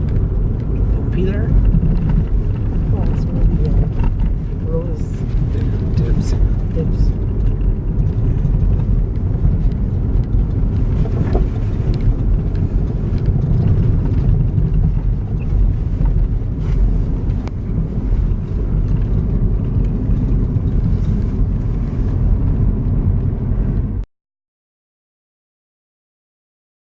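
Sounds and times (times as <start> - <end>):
truck engine and tyre rumble: 0.0 - 24.1.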